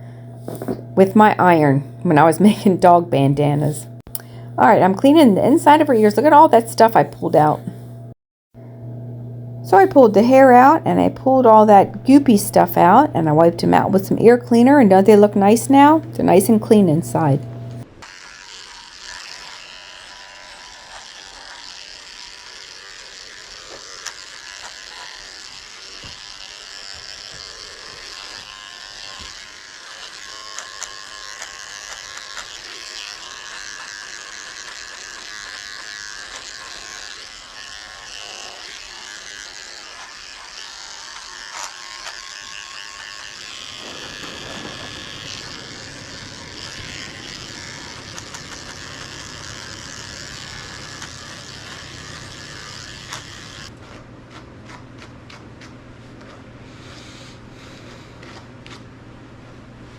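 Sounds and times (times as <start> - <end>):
electric clippers running: 0.0 - 2.7, 5.5 - 59.0.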